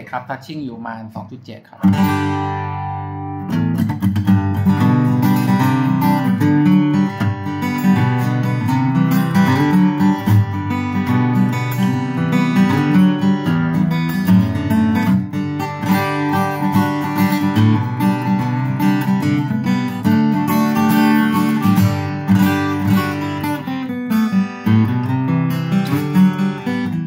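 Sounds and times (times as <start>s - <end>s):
fingerstyle acoustic guitar: 1.8s - 27.0s.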